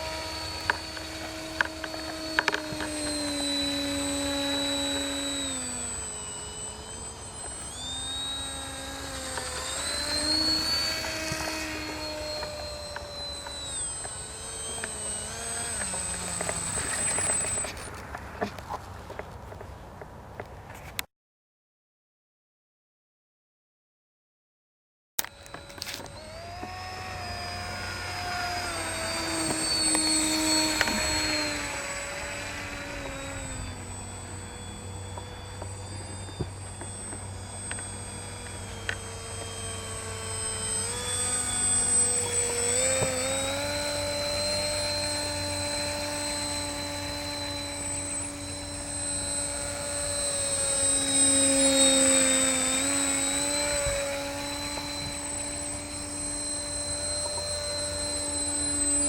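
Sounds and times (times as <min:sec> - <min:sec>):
model aircraft motor whine: 0:00.0 - 0:19.3, 0:25.2 - 0:59.0.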